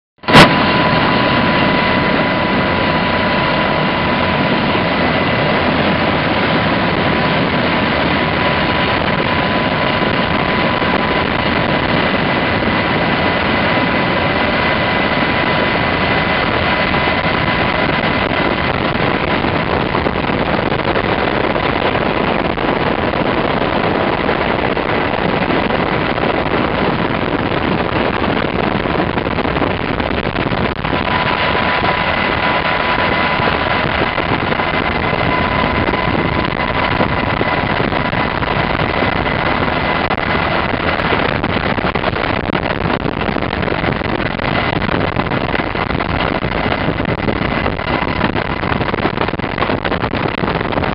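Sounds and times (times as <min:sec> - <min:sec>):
helicopter rotor and turbine noise: 0:00.2 - 0:50.9
high whine: 0:00.2 - 0:50.9.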